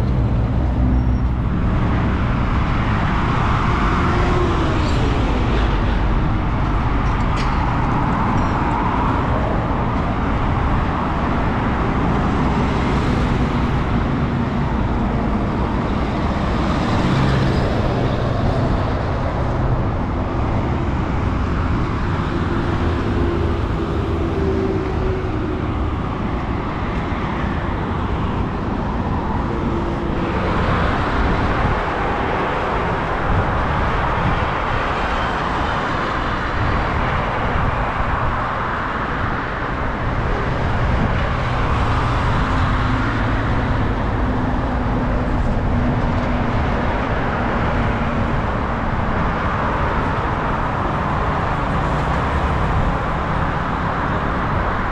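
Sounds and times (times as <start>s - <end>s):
highway traffic: 0.0s - 54.9s
vehicles passing: 0.0s - 54.9s.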